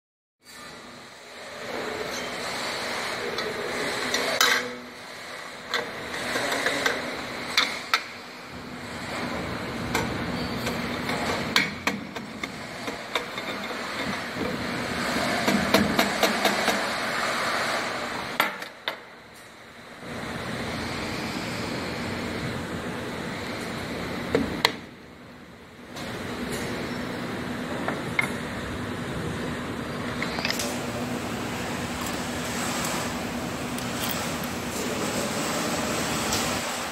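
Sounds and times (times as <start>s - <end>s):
steady background noise: 0.4s - 36.9s.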